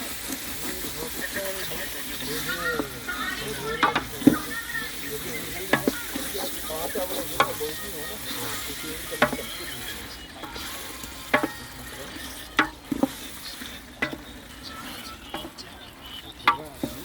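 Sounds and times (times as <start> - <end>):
curry sizzling in a pot: 0.0 - 17.0
metal spoon clinking on pot: 0.9 - 15.6.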